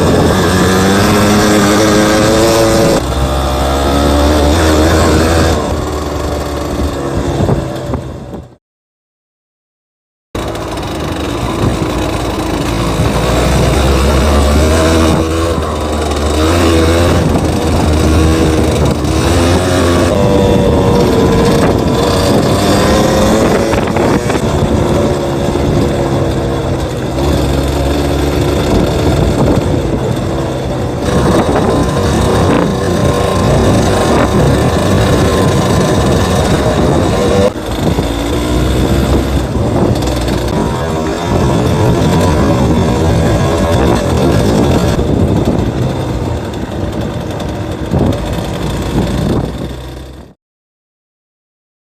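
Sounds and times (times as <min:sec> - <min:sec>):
two-stroke motorcycle engine: 0:00.0 - 0:08.6, 0:10.4 - 0:50.4.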